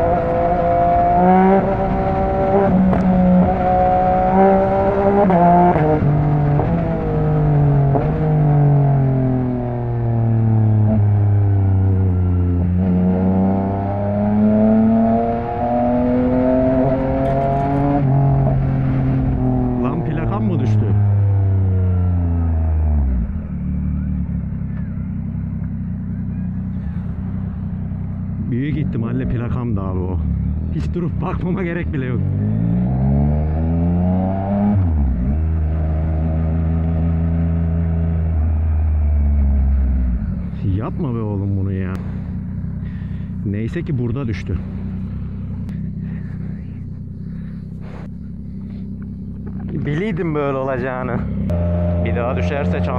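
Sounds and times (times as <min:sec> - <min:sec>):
motorcycle engine while riding: 0:00.0 - 0:52.9.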